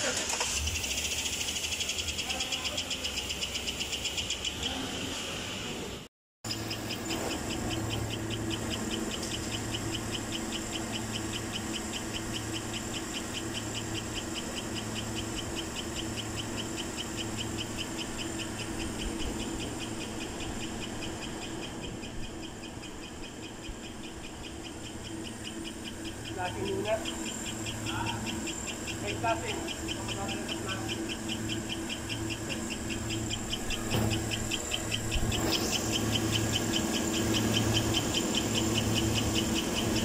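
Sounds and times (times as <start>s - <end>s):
engine running with fast ticking: 0.0s - 4.8s, 6.5s - 40.0s.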